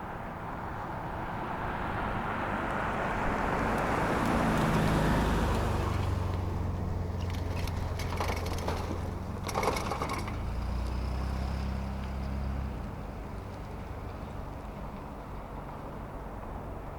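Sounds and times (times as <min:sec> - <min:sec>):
vehicle passing by: 0:00.0 - 0:16.0
low engine hum: 0:00.0 - 0:16.9.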